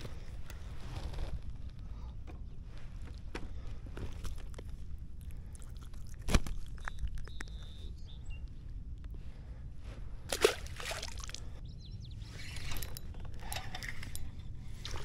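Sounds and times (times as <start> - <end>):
steady low rumble: 0.0 - 12.3.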